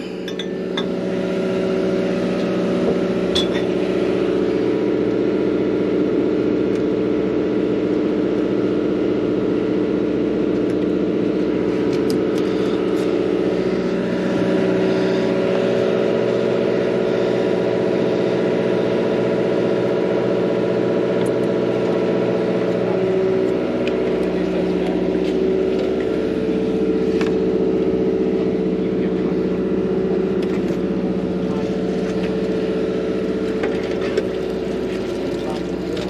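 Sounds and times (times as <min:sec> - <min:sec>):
boat engine drone: 0:00.0 - 0:36.0.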